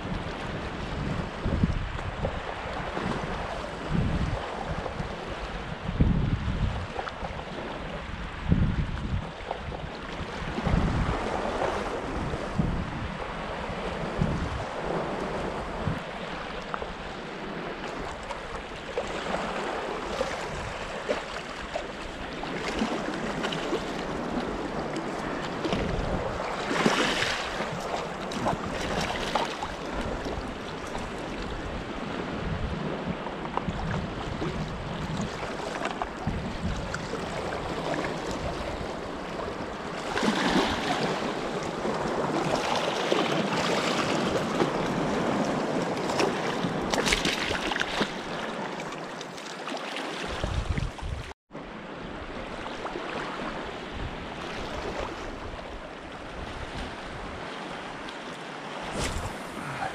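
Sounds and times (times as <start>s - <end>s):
wind buffeting microphone: 0.0s - 48.3s, 50.3s - 51.4s, 53.5s - 58.1s, 58.7s - 59.9s
seawater washing around rocks: 6.4s - 51.3s, 54.4s - 59.9s.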